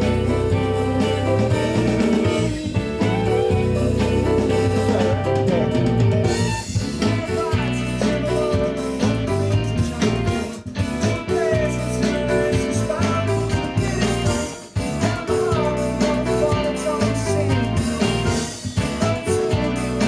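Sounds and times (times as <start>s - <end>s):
band playing with steady beat: 0.0s - 20.0s.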